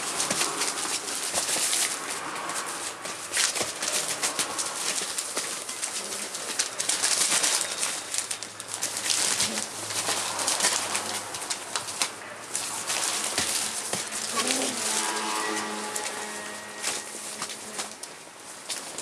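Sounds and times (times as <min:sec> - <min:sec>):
newspaper crinkling and rustling: 0:00.0 - 0:19.0.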